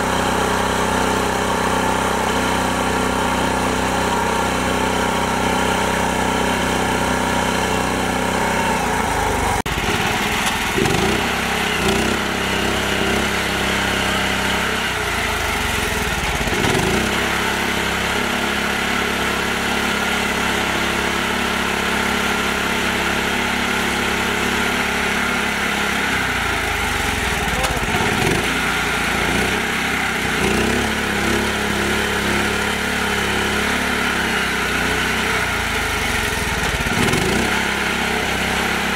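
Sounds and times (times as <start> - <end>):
tractor engine running under load: 0.0 - 38.9.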